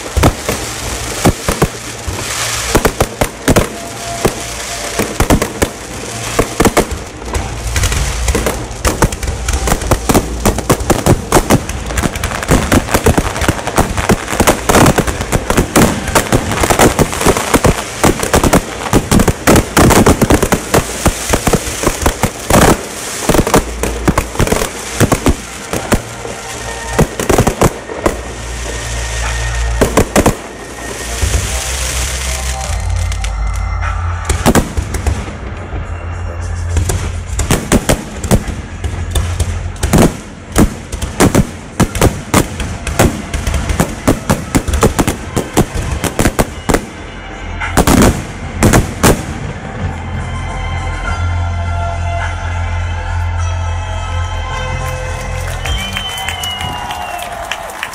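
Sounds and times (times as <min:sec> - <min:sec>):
fireworks bangs: 0:00.0 - 0:50.2.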